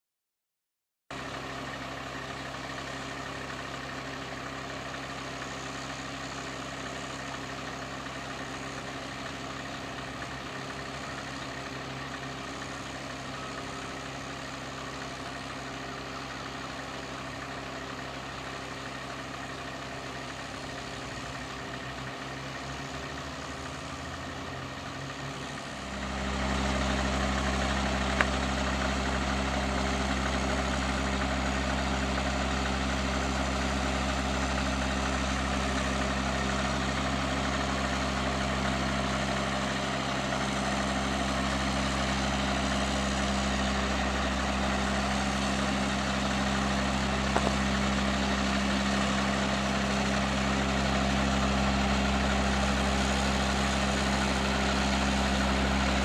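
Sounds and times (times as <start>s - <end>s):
diesel engines idling: 1.1s - 56.0s
lorry engine pulling forward: 1.2s - 56.0s.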